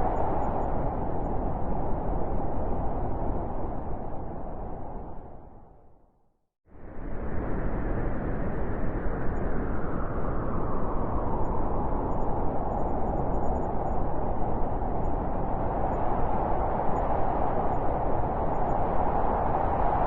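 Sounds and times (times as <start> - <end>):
blizzard wind howling: 0.0 - 6.0, 6.7 - 20.0.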